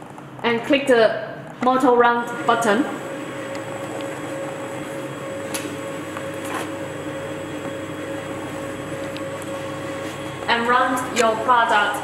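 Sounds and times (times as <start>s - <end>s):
conveyor motors humming: 0.0s - 12.0s.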